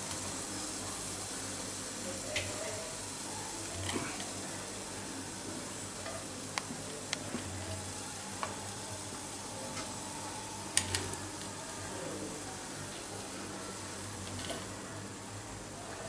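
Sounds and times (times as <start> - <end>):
sizzling hiss from pot: 0.0 - 16.0.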